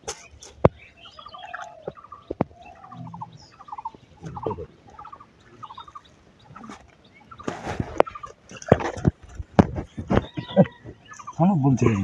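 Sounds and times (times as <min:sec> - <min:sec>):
chattering animal calls: 0:00.0 - 0:12.0.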